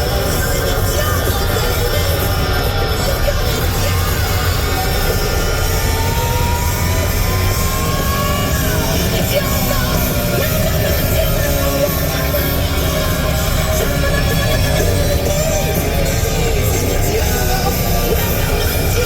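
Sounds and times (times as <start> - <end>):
hard rock song with singing: 0.0 - 19.0.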